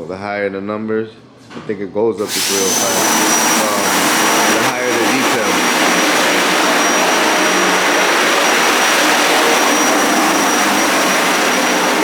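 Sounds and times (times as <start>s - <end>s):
high-pitched whine: 2.2s - 12.0s
rushing machine noise: 2.2s - 12.0s.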